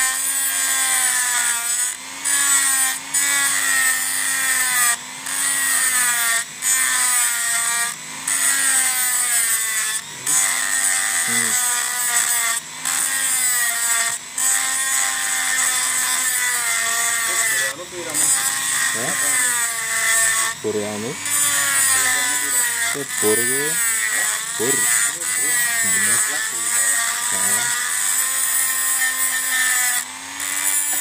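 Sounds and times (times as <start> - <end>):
rotary tool grinding metal: 0.0 - 31.0.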